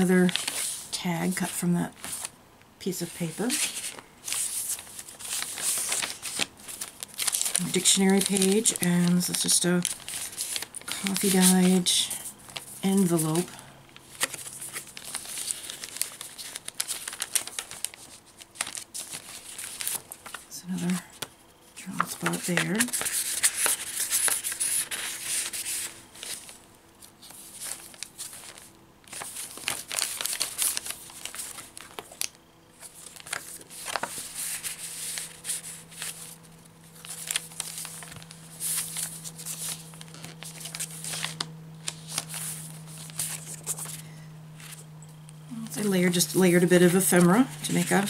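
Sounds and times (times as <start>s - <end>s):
paper rustling and crinkling: 0.0s - 2.4s, 3.0s - 45.0s, 45.6s - 48.0s
faint steady hum: 0.0s - 48.0s.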